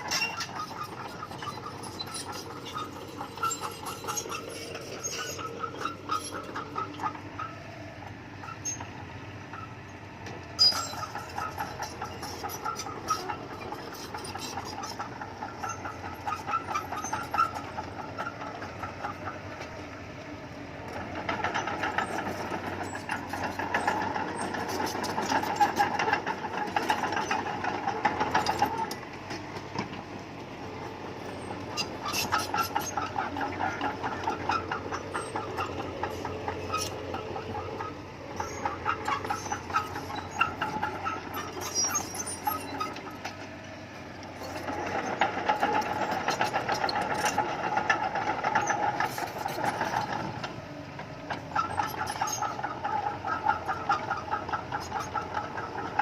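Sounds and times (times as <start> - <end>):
bulldozer diesel engine: 0.0 - 56.0
steel tracks clanking and squeaking: 0.0 - 56.0.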